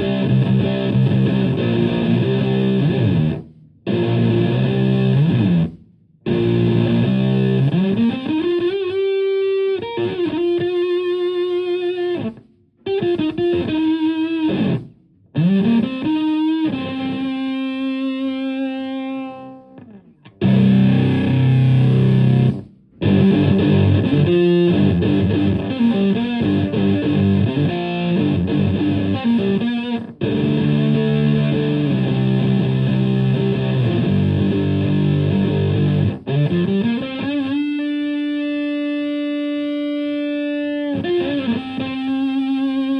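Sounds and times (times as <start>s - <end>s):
fuzz electric guitar: 0.0s - 42.9s.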